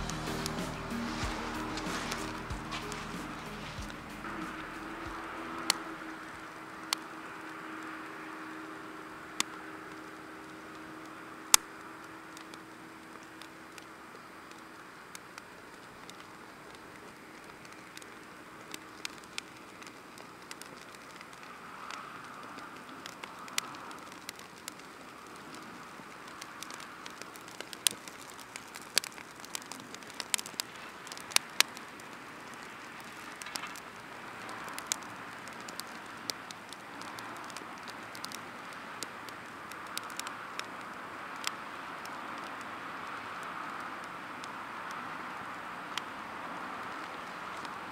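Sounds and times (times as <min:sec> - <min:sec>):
firewood crackling and popping: 0:00.0 - 0:47.9
soft steady hiss: 0:00.0 - 0:47.9.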